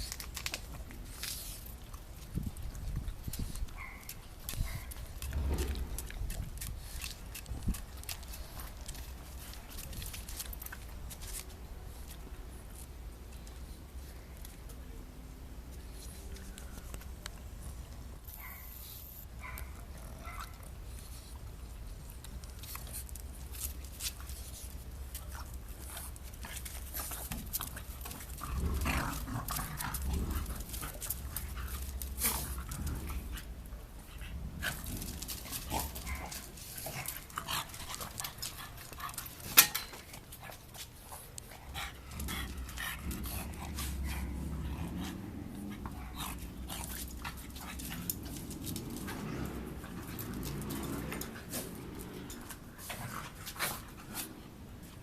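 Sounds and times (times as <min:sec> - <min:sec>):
dogs scuffling and rustling: 0:00.0 - 0:55.0.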